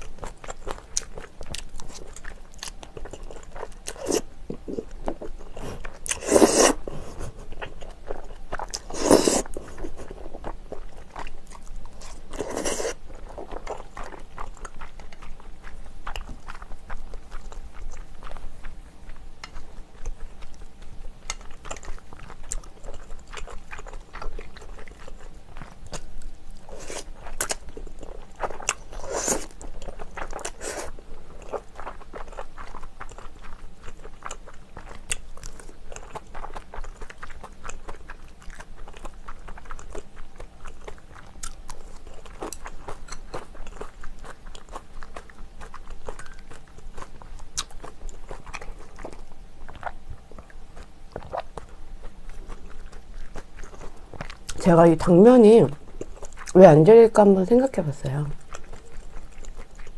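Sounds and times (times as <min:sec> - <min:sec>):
chewing and biting chicken: 0:00.0 - 0:54.9, 0:55.7 - 0:56.6, 0:58.3 - 0:59.9.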